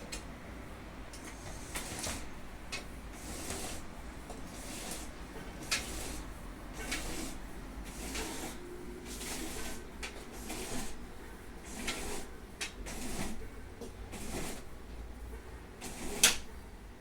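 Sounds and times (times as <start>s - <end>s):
window blind cord rasping and clicking: 1.1s - 11.0s, 11.6s - 14.7s, 15.8s - 16.5s.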